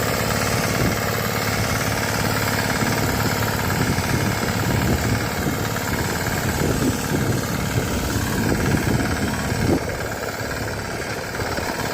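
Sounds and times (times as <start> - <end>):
small engine running: 0.0 - 11.9.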